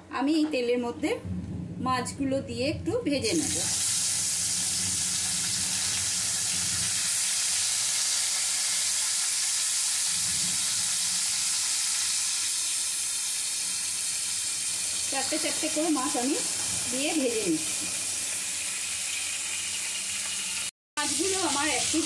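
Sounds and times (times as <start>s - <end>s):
fish frying in oil: 3.4s - 22.0s.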